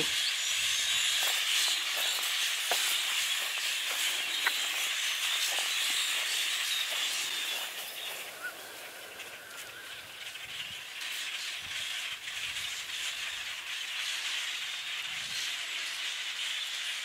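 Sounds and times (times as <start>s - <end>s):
flock of small birds calling: 0.0s - 17.0s.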